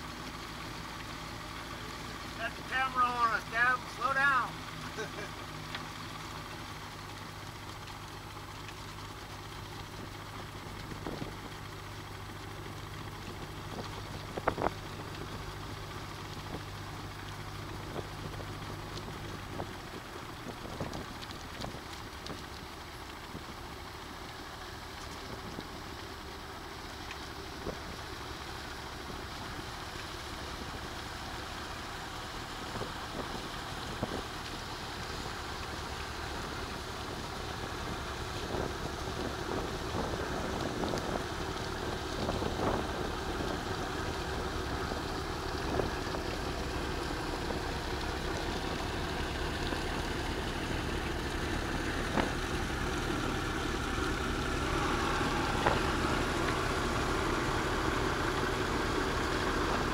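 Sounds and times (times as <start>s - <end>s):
boat engine drone: 0.0s - 59.9s
wake water splashing: 0.0s - 59.9s
wind: 0.0s - 59.9s.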